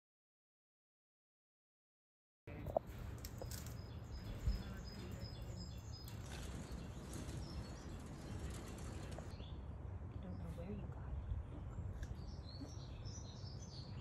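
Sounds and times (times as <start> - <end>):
small birds chirping: 2.5 - 14.0.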